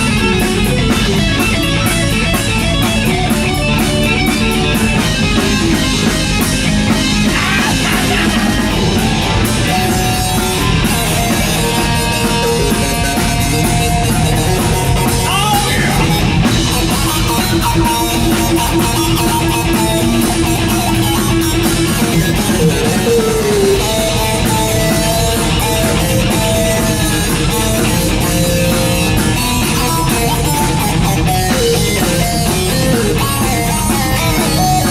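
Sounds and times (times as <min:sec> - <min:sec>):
bass guitar: 0:00.0 - 0:34.9
drum kit beating: 0:00.0 - 0:34.9
electric guitar: 0:00.0 - 0:34.9.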